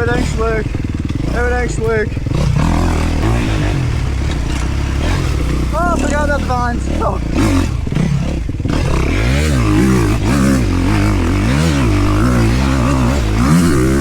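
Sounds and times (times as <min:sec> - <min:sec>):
clatter: 0:00.0 - 0:14.0
dirt bike engine revving: 0:00.0 - 0:14.0.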